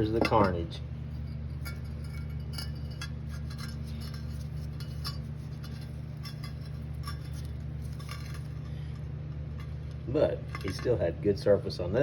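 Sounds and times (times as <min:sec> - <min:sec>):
low hum: 0:00.0 - 0:10.8.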